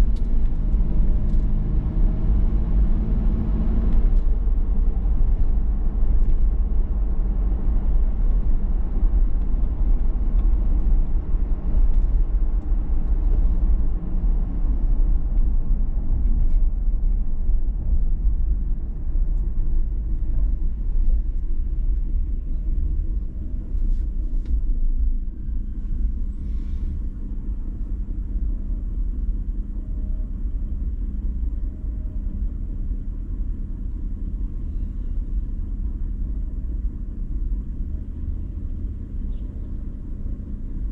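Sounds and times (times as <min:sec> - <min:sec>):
vehicle engine and tyre rumble: 0:00.0 - 0:40.9.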